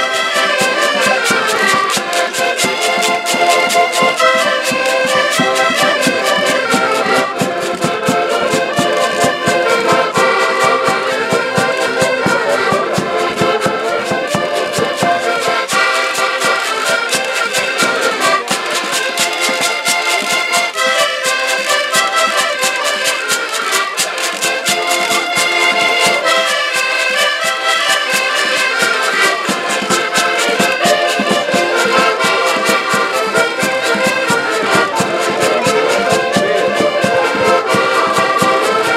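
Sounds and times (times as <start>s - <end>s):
button accordions playing folk music: 0.0s - 38.9s
hand drum beat: 0.0s - 38.9s.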